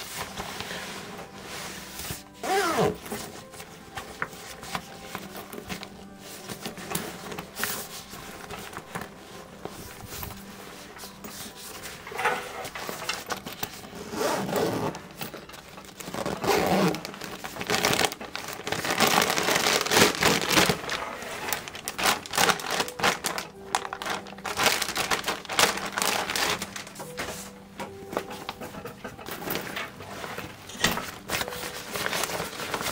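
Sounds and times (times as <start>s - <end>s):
packaging rustling and crinkling: 0.0s - 32.9s.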